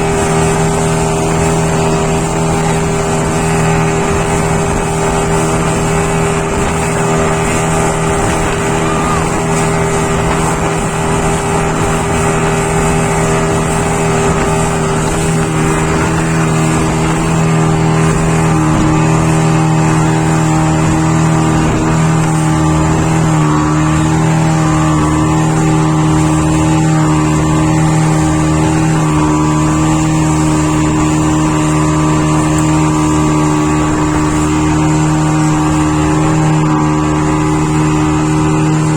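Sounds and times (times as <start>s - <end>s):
motorboat engine running: 0.0s - 38.9s.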